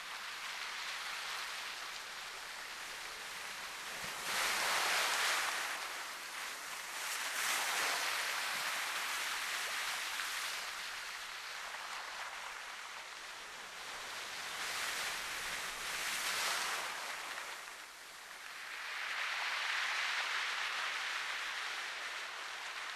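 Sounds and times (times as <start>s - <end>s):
sea waves washing in: 0.0s - 22.9s.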